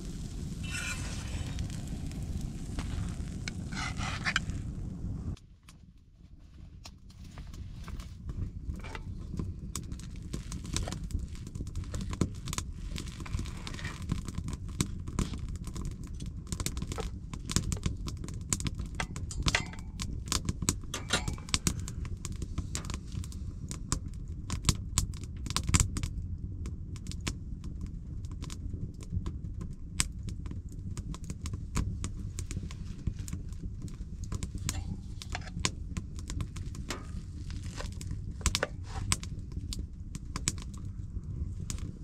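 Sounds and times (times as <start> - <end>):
low fire rumble: 0.0 - 42.0
wood fire crackling: 0.0 - 42.0.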